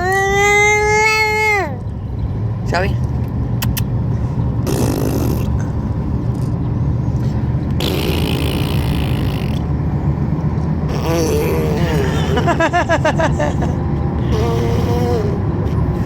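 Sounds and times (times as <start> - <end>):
road and engine hum in a car: 0.0 - 16.0.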